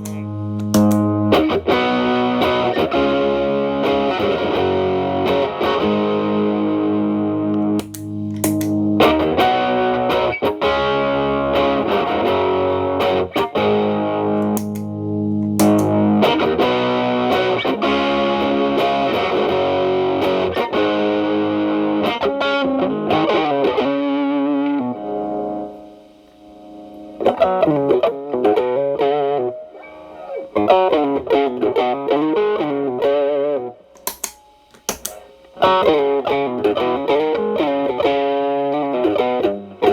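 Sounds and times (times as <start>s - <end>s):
clean picked guitar lines: 0.0s - 22.0s, 22.9s - 39.9s
distorted electric guitar: 0.0s - 39.9s.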